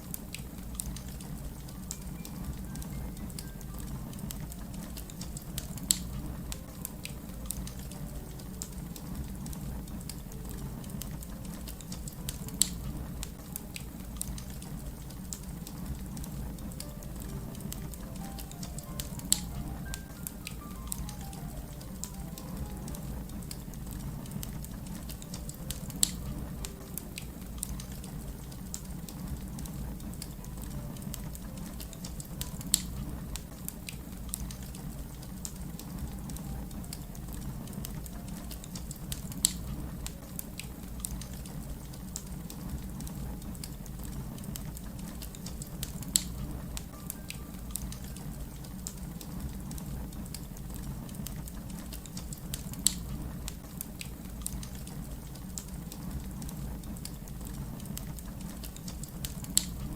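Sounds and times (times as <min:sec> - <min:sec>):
low rumble of fire: 0:00.0 - 0:59.9
wood fire crackling: 0:00.0 - 0:59.9.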